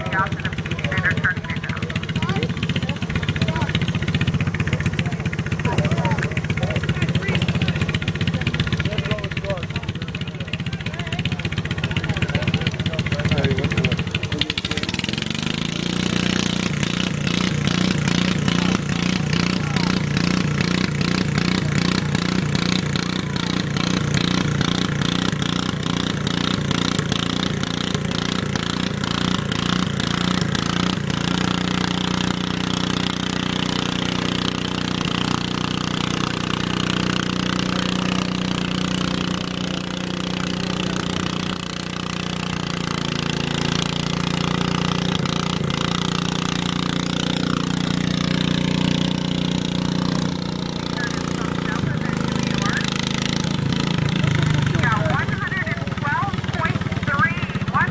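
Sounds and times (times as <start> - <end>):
garden tractor engine running: 0.0 - 57.9.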